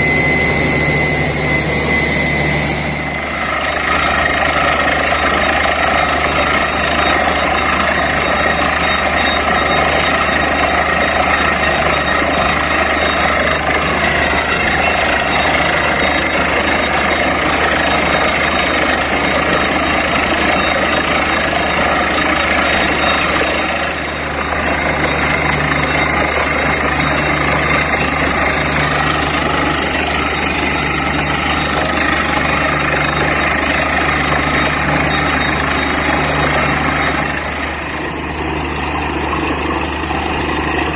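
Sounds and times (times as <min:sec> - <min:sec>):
drilling rig din: 0:00.0 - 0:40.9.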